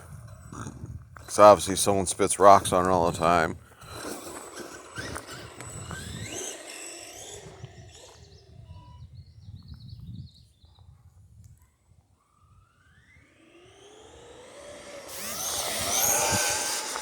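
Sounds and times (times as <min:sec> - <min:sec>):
rc truck motor whine: 0:00.0 - 0:11.3, 0:11.9 - 0:17.0.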